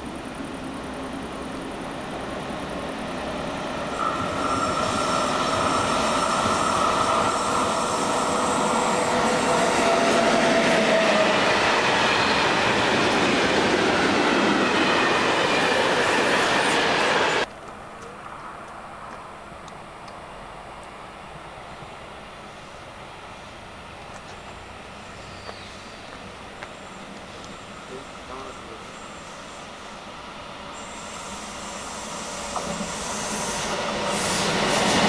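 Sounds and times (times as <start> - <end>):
locomotive whine: 0.0 - 35.0
train rail and wheel noise: 0.0 - 35.0.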